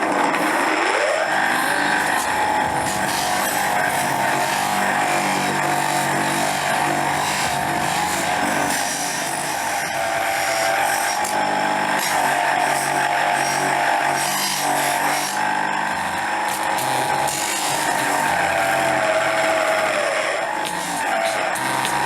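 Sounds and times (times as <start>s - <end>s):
power tool running: 0.0s - 22.0s.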